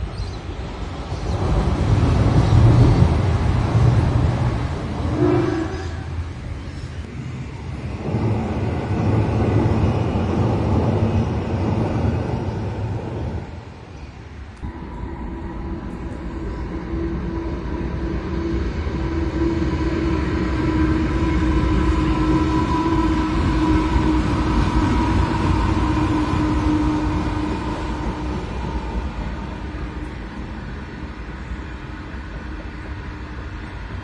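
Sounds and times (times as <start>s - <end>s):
diesel locomotive engine drone: 0.0s - 34.0s
train wheels rumbling on rails: 0.0s - 34.0s.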